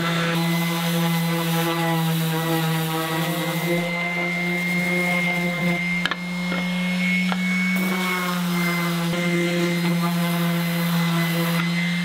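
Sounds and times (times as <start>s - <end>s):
orbital sander motor whine: 0.0s - 12.0s.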